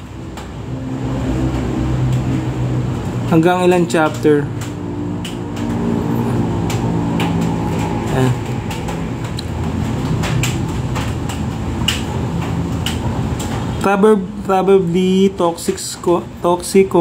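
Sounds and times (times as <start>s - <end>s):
machine hum: 0.0s - 16.5s.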